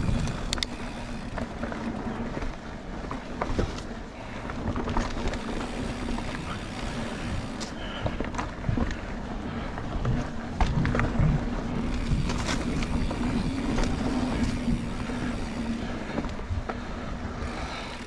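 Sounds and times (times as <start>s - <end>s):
bike clicks and rattles: 0.0s - 18.0s
bike tyres rumbling on dirt: 0.0s - 18.0s.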